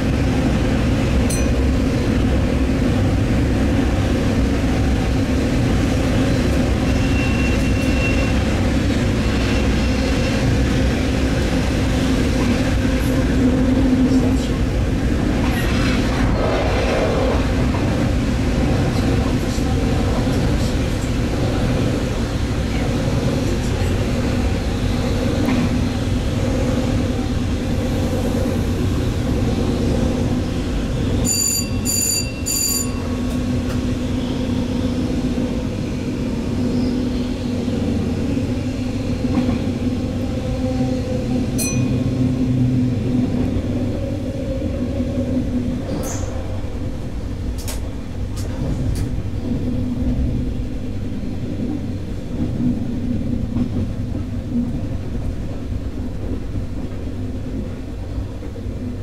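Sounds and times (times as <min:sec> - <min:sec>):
train engine and wheels rumbling: 0:00.0 - 0:59.0.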